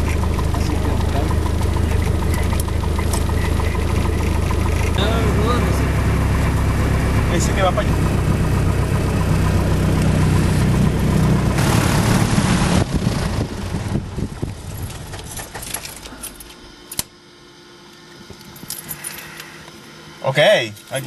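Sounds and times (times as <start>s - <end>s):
aircraft piston engine idling: 0.0s - 17.0s
propeller winding down: 0.0s - 17.0s.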